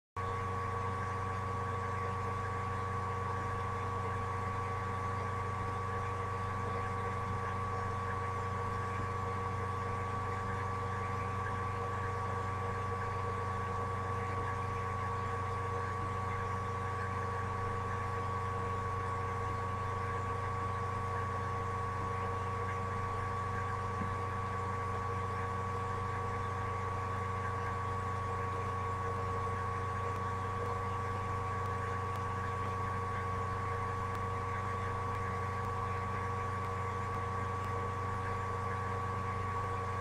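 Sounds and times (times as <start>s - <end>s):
computer fan hum and whine: 0.2s - 40.0s.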